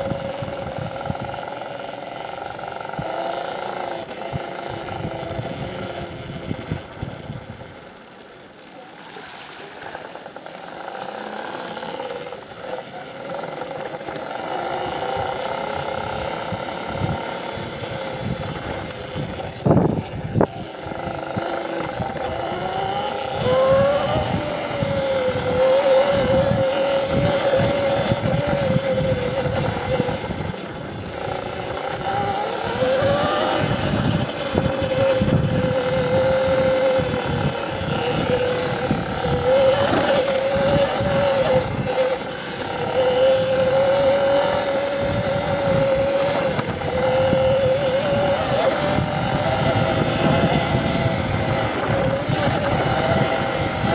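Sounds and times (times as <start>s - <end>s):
wind buffeting microphone: 0.0s - 8.0s, 10.8s - 53.9s
electric motor whining: 0.0s - 53.9s.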